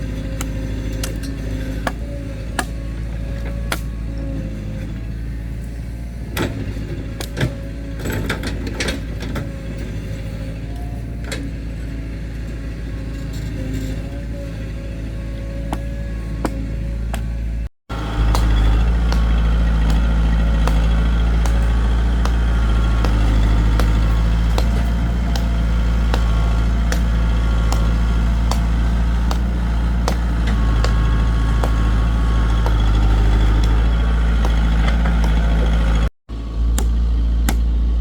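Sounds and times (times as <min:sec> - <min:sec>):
heavy vehicle engine running: 0:00.0 - 0:38.0.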